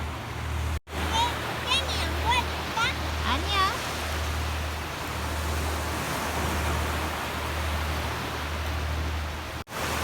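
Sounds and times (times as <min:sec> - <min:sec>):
sea waves on shore: 0:00.0 - 0:10.0
wind: 0:00.0 - 0:10.0.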